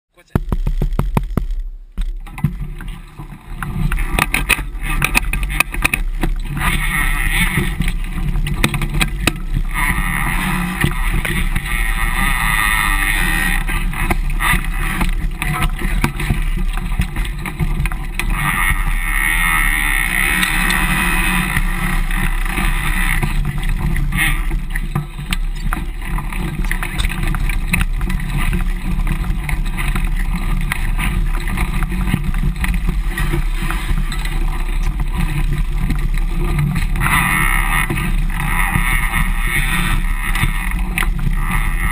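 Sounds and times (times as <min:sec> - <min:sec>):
bike rattling and knocking: 0:00.2 - 0:41.9
bike tyres on rocky trail: 0:00.2 - 0:41.9.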